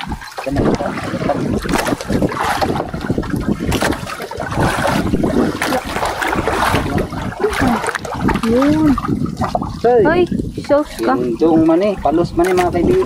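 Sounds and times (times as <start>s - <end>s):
water slapping against boat: 0.0s - 13.0s
wind buffeting microphone: 0.0s - 13.0s.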